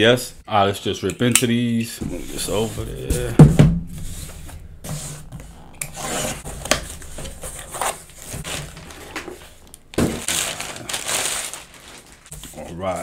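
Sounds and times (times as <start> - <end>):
cardboard and bubble wrap rustling: 2.1 - 13.0.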